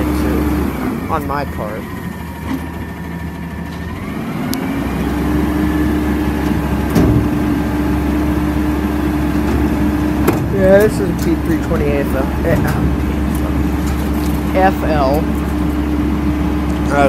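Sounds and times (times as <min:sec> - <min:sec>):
garbage truck engine revving: 0:00.0 - 0:17.0
hydraulic arms lowering dumpster: 0:00.0 - 0:17.0.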